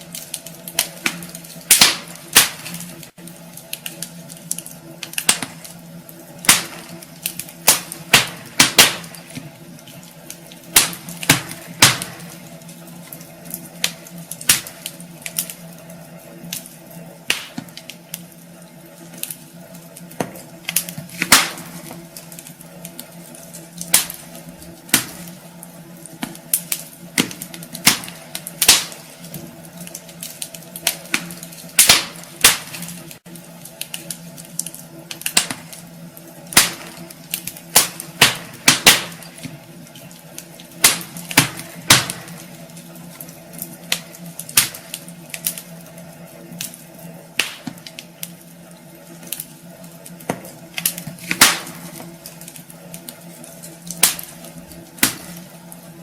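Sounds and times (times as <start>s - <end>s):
fire crackling and popping: 0.0s - 56.0s
fire soft hiss: 0.0s - 56.0s.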